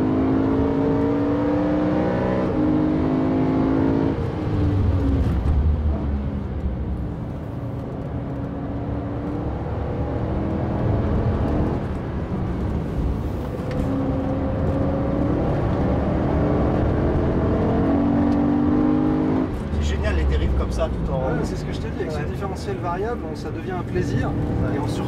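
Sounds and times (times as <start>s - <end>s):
car engine accelerating: 0.0s - 22.4s
tyre and road noise: 0.0s - 25.0s.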